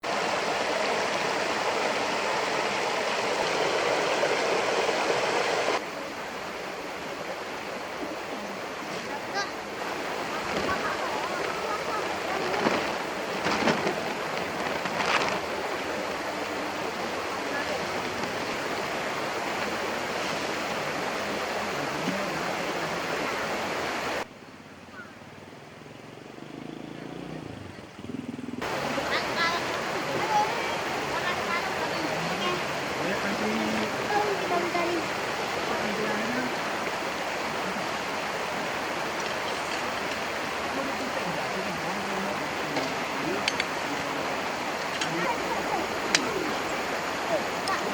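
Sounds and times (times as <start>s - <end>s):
stream water rushing: 0.0s - 27.9s, 28.5s - 47.9s.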